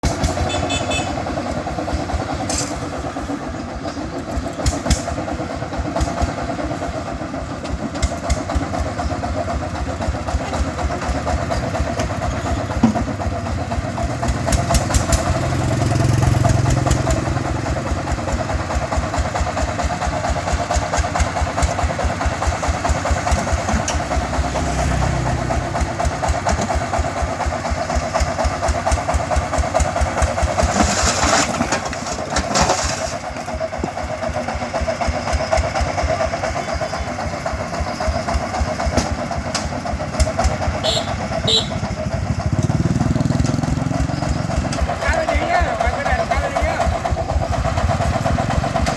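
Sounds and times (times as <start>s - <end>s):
deeper engine sound: 0.0s - 30.7s, 33.2s - 48.9s
diesel engine chugging: 0.0s - 48.9s.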